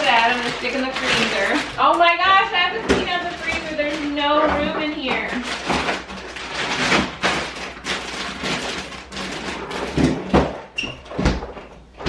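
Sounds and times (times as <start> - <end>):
frozen food bags rustling: 0.0 - 12.0.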